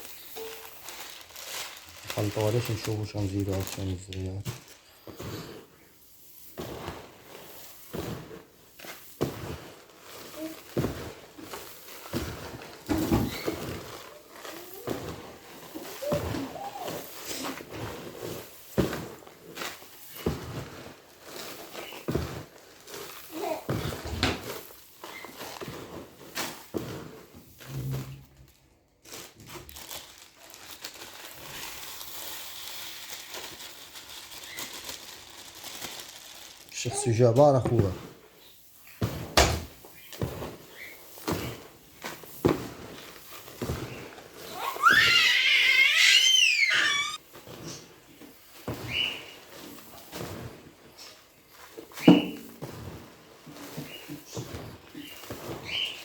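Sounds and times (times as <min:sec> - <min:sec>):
dry grains rustling: 0:00.0 - 0:56.0.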